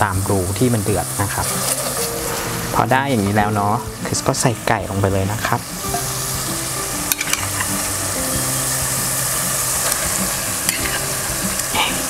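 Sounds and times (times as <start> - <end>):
frying hiss: 0.0 - 12.0.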